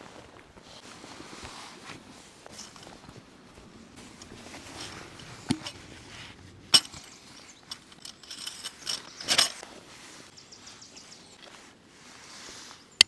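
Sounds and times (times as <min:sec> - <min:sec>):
rustling and clinking of tent stake: 0:00.6 - 0:12.8.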